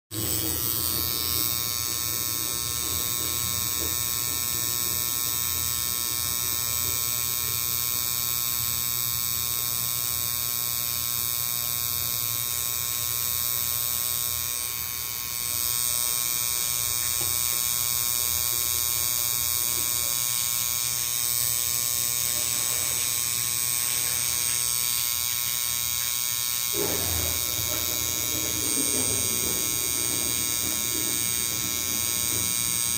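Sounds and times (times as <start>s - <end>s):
mechanical buzz and whine: 0.1s - 32.9s.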